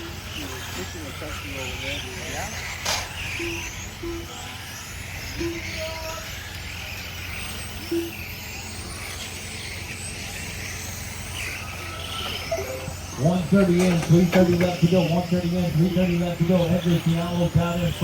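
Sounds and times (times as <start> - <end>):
rc car motor whines: 0.0 - 18.0
steady background hum: 0.0 - 18.0.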